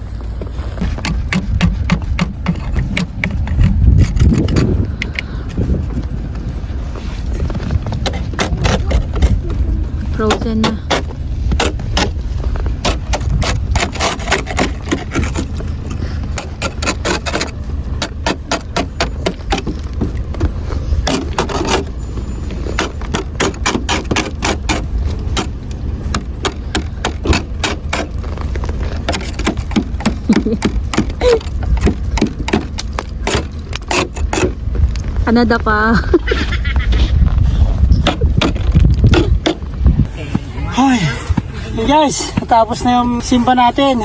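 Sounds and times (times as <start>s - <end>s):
steady low rumble: 0.0s - 44.0s
ice scraper scraping car window: 0.6s - 40.0s.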